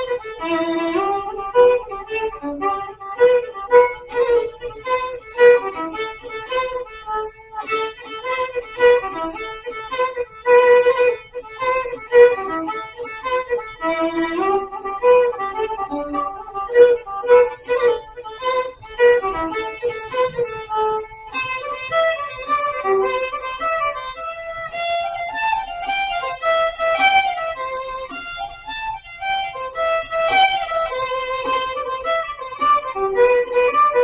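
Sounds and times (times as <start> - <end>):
fiddle tune on violin: 0.0 - 34.0.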